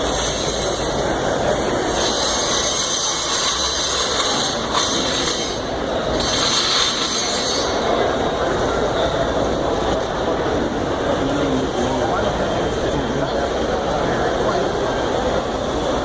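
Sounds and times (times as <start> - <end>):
crowded hall din: 0.0 - 16.0.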